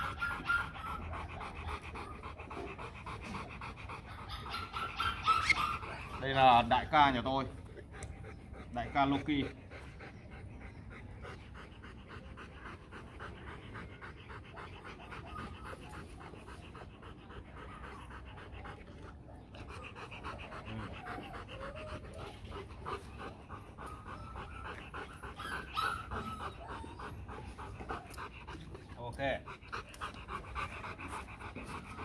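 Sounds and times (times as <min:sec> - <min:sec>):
dog panting: 0:00.0 - 0:32.0.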